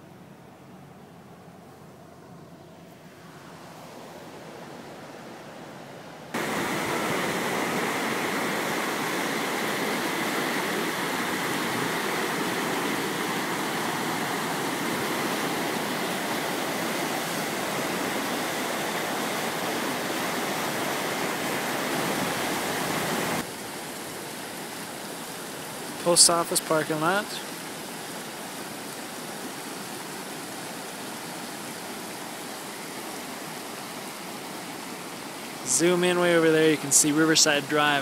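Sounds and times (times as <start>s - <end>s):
floodwater rushing: 3.1s - 38.0s.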